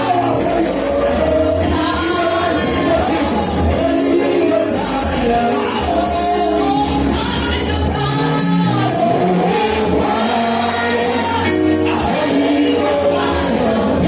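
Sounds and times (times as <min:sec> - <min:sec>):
band with bass line: 0:00.0 - 0:14.0
voices singing together: 0:00.0 - 0:14.0.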